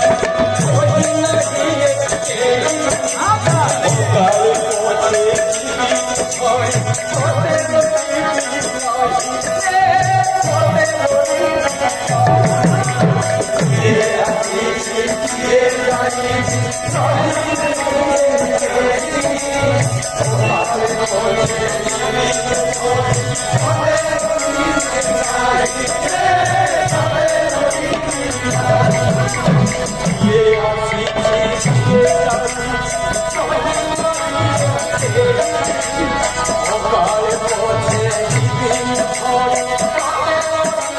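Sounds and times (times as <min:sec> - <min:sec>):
drum beating rhythm: 0:00.0 - 0:40.9
voices singing together: 0:00.0 - 0:40.9.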